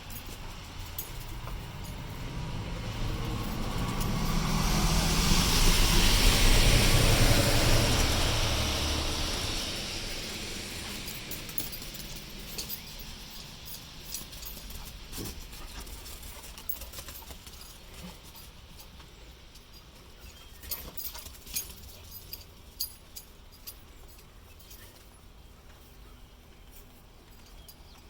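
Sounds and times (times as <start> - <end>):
dog paws thudding and clicking: 0.0 - 5.6, 10.6 - 28.0.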